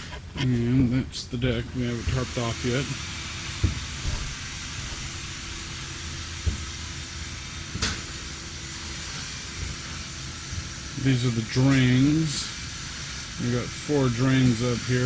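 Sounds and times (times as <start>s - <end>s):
faint constant hum: 0.0s - 15.0s
steady hiss and low rumble: 0.0s - 15.0s.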